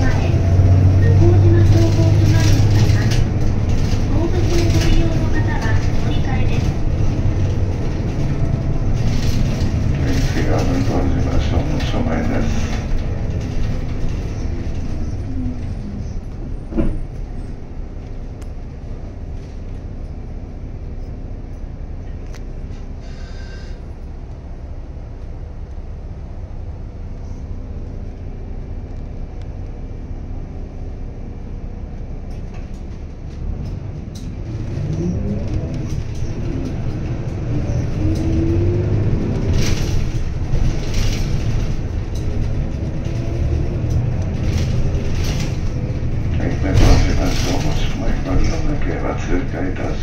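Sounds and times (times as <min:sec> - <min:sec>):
bus engine idling: 0:00.0 - 0:50.0.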